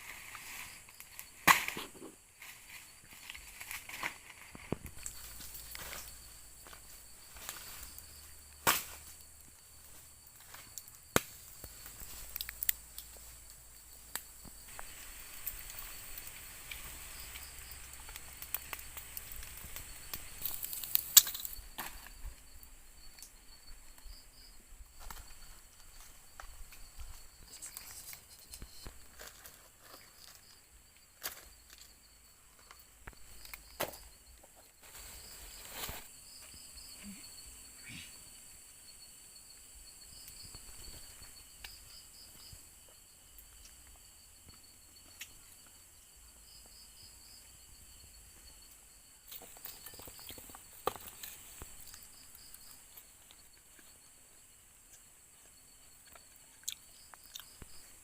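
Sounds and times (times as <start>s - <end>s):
crickets chirping: 0.0s - 58.0s
rustles: 0.0s - 58.0s.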